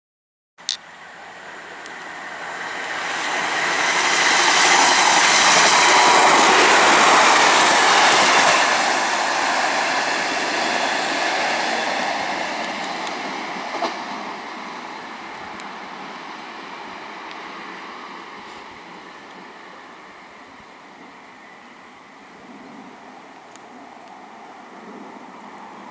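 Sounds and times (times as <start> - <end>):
diesel train passing: 0.6 - 25.9
train wheels on rails: 0.6 - 25.9.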